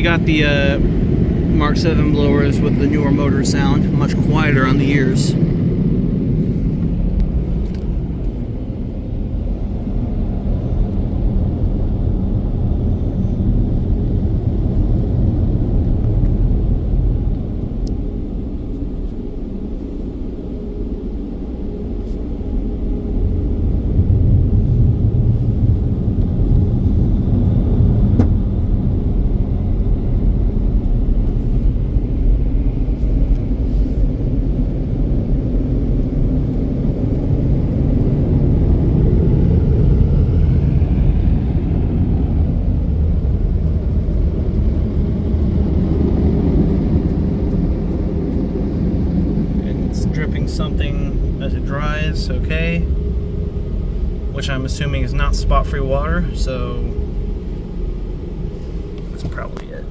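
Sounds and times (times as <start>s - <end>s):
car wash dryer blowers rushing air: 0.0s - 59.9s.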